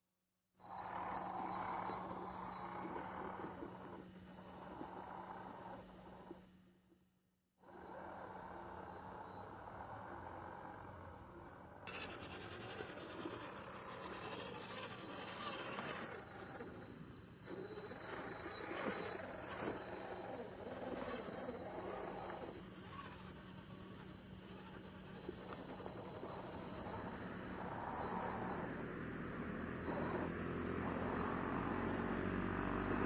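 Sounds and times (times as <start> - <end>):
electric motor whine: 0.6 - 7.0, 7.6 - 33.0.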